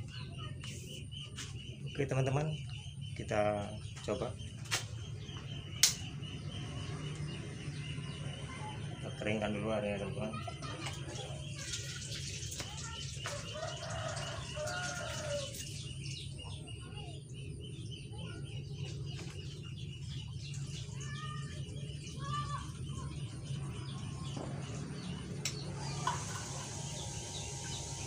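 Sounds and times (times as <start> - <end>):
steady low hum: 0.0 - 11.6, 13.3 - 28.0
small birds chirping: 0.0 - 28.0.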